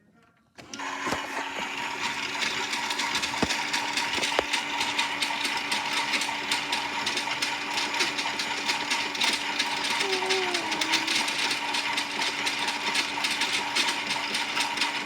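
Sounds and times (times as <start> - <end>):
toy motor humming and rattling: 1.2 - 15.0.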